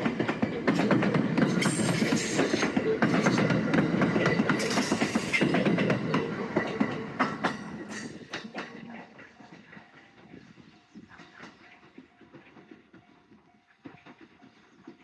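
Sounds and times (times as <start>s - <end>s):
train rolling rumble: 0.0s - 15.0s
train wheels clattering over rail joints: 0.0s - 15.0s.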